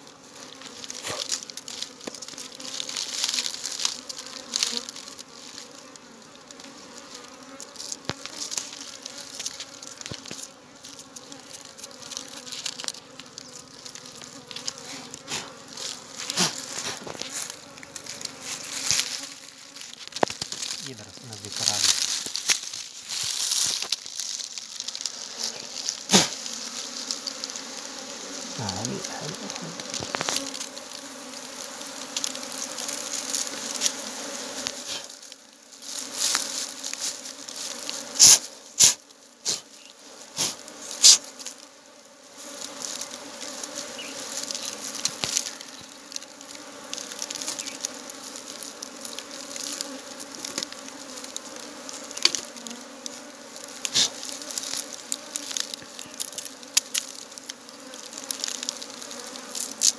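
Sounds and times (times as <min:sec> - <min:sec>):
clicks and knocks handling honeycomb: 0:00.0 - 0:41.7, 0:42.4 - 0:59.9
honeybees buzzing: 0:00.0 - 0:59.9.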